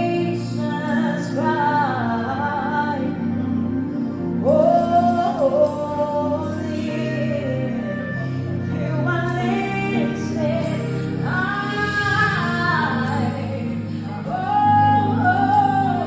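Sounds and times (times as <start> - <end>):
woman singing gospel song: 0.0 - 16.0.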